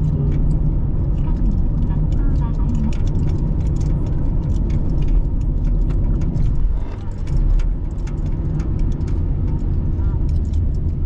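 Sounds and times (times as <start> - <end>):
car cabin road and engine rumble: 0.0 - 11.0
interior rattling clicks: 0.0 - 11.0.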